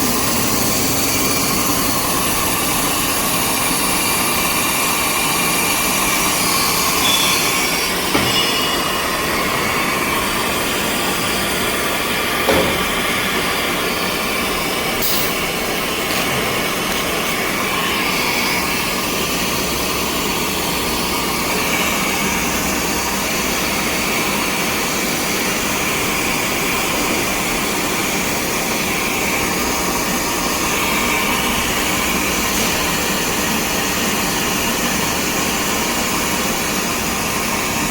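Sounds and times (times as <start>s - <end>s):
machine whirring: 0.0s - 37.9s.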